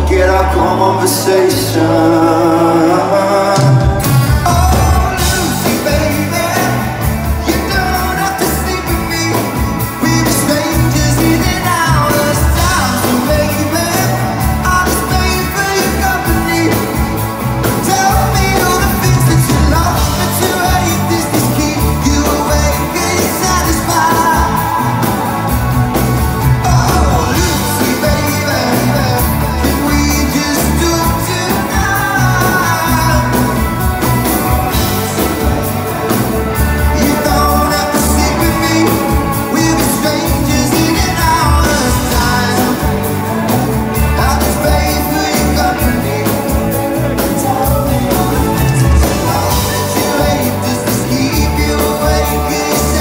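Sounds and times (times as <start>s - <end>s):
live rock band playing: 0.0s - 53.0s
person singing: 0.0s - 53.0s.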